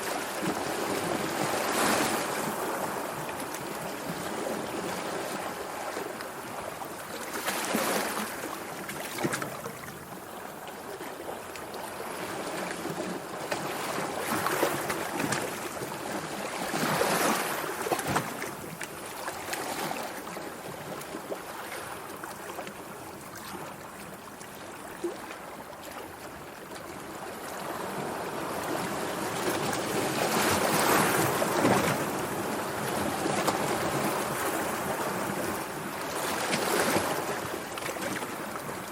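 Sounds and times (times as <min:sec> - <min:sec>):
sea water lapping and splashing: 0:00.0 - 0:38.9.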